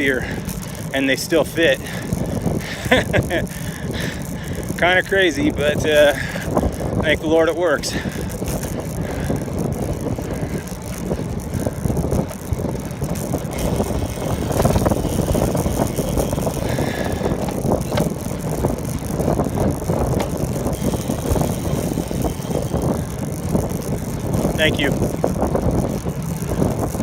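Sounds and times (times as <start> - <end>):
light bicycle clicks: 0.0 - 27.0
wind and road noise rumble: 0.0 - 27.0.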